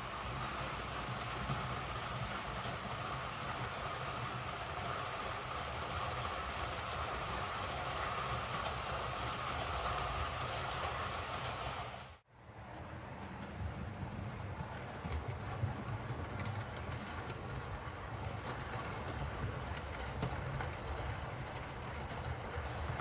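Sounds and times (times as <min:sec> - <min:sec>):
wheels rumbling on rails: 0:00.0 - 0:23.0.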